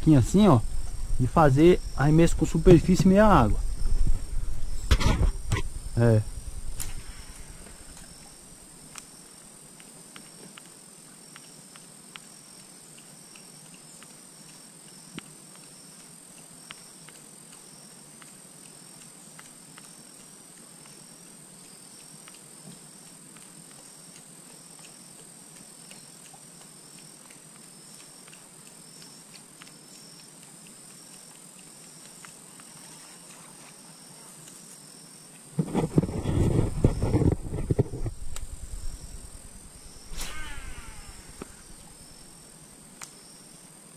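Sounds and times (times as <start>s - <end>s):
high insect drone: 0.0s - 43.9s.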